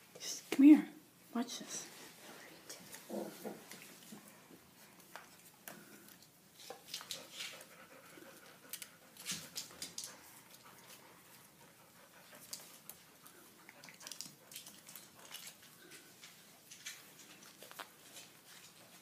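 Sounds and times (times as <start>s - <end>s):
puppies scuffling: 2.0s - 19.0s.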